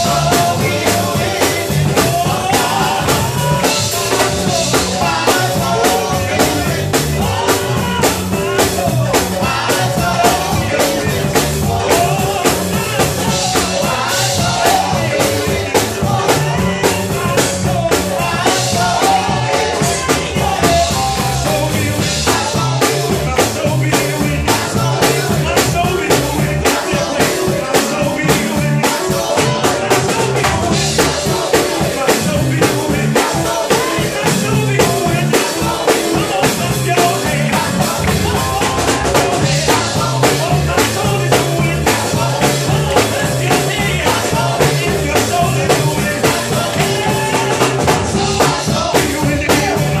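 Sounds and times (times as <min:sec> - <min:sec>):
band playing gospel music: 0:00.0 - 0:50.0
male vocal group singing: 0:00.0 - 0:50.0.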